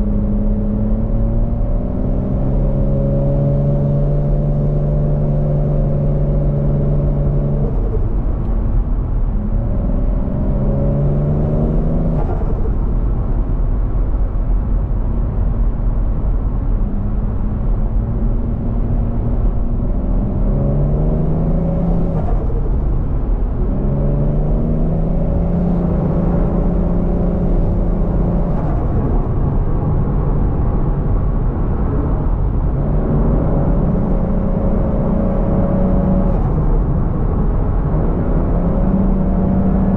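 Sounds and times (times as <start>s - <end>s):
car engine accelerating: 0.0s - 13.7s, 15.3s - 39.9s.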